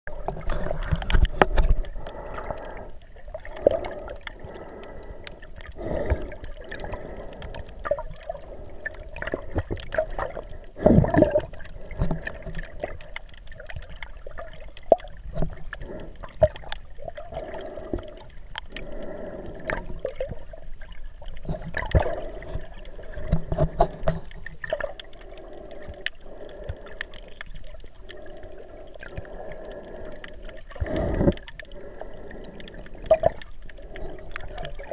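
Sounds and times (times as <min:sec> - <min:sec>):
water sloshing underwater: 0:00.0 - 0:34.9.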